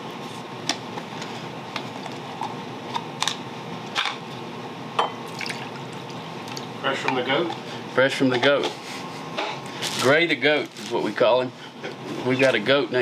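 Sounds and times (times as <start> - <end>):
fan-like background hum: 0.0 - 13.0.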